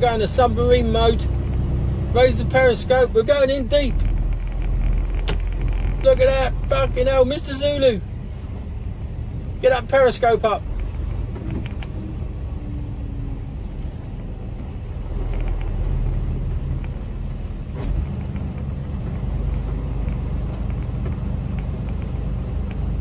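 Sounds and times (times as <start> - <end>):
lorry diesel engine rumble: 0.0 - 23.0.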